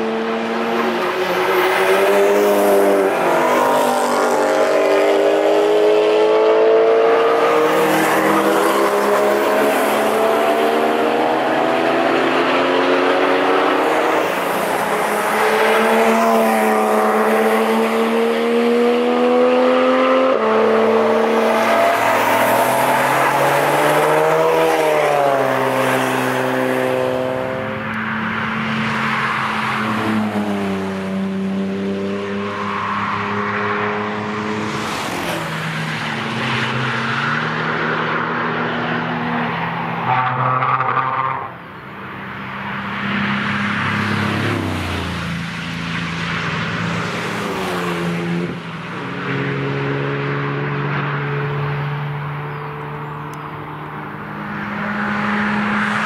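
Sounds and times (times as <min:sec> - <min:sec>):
sports cars passing at speed: 0:00.0 - 0:56.0
tyre and road noise: 0:00.0 - 0:56.0.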